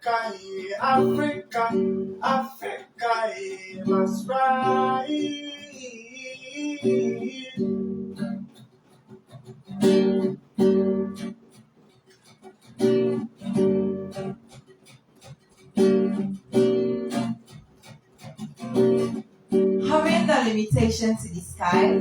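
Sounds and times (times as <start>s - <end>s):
acoustic guitar strummed chords: 0.0s - 22.0s.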